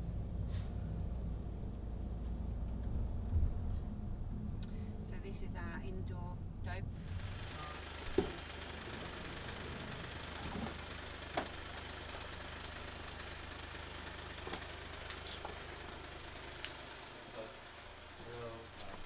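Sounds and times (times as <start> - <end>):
minivan engine idling: 0.0 - 19.0.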